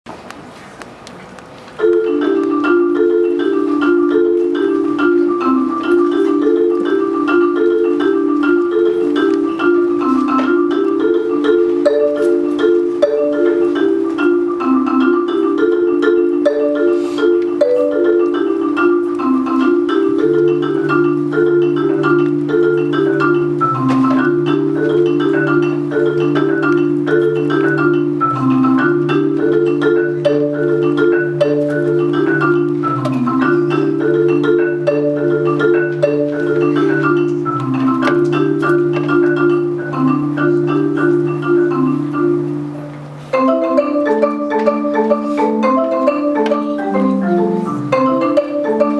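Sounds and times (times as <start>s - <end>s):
marimba fast repeating notes: 1.8s - 48.9s
marimba low note: 1.8s - 48.9s.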